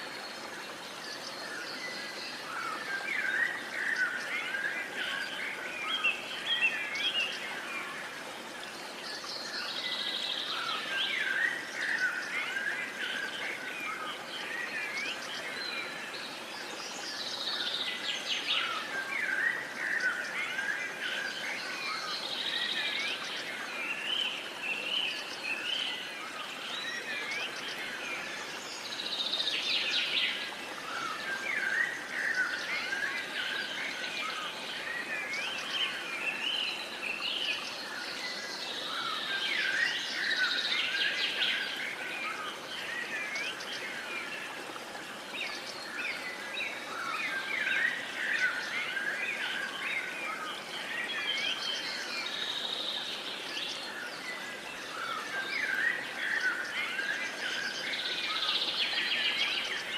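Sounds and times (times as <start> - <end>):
soft steady hiss: 0.0 - 59.9.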